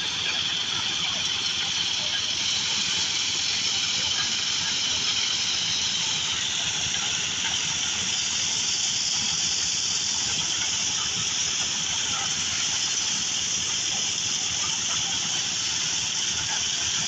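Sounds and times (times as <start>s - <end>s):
corn sheller rushing hiss: 0.0s - 17.0s.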